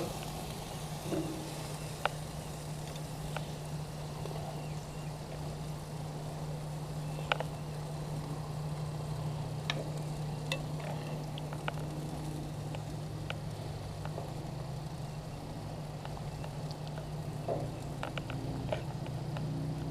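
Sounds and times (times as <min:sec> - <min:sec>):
chicken sizzling: 0:00.0 - 0:19.9
steady low hum: 0:00.0 - 0:19.9.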